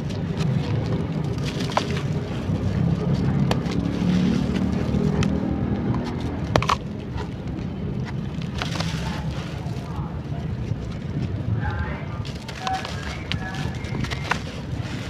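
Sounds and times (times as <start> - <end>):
charcoal crunching and cracking: 0.0 - 15.0
low steady rumble: 0.0 - 15.0.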